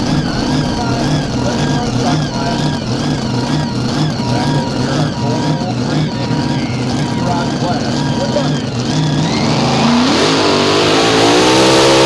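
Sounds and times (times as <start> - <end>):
tractor engine running loudly: 0.0 - 12.0.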